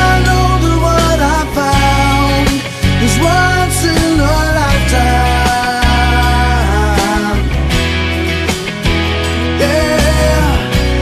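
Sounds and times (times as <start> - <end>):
person singing: 0.0 - 7.8, 9.4 - 11.0
pop band backing: 0.0 - 11.0.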